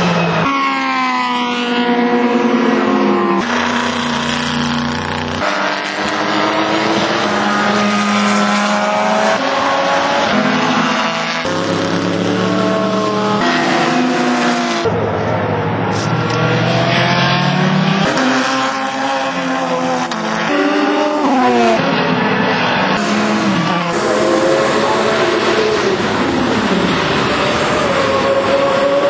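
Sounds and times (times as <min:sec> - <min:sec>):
racing car engines passing: 0:00.0 - 0:29.0.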